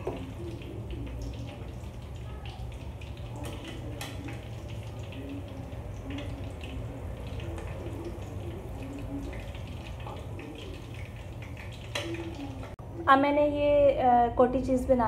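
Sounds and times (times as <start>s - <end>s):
food deep-frying in hot oil: 0.0s - 12.8s.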